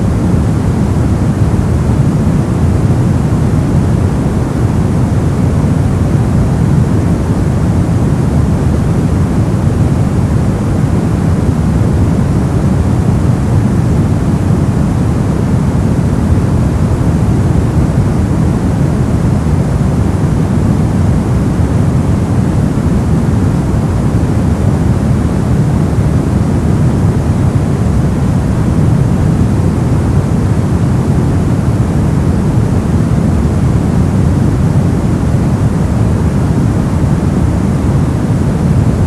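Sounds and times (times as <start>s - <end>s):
brown noise hiss: 0.0s - 39.0s.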